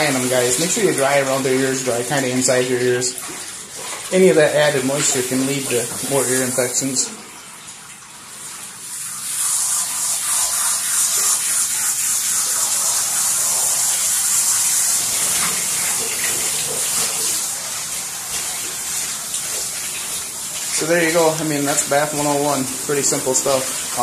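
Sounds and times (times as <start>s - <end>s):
shower sprayer spraying water: 0.0s - 24.0s.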